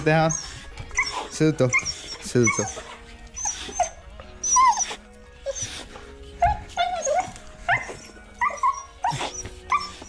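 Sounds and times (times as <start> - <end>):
background music: 0.0 - 10.0
dog whining and yelping: 0.0 - 10.0.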